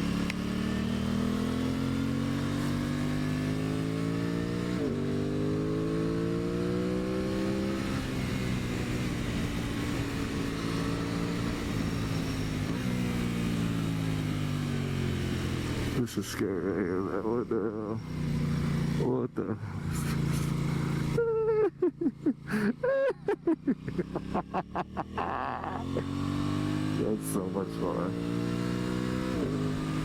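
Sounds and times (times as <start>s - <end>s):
motorcycle engine revving under throttle: 0.0s - 21.2s, 23.6s - 30.0s.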